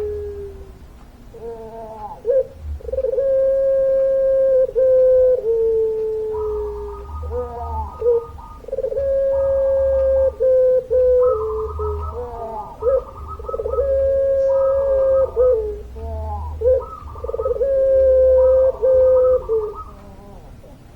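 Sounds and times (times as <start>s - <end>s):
dove cooing: 0.0s - 20.9s
low steady hum: 0.0s - 20.9s.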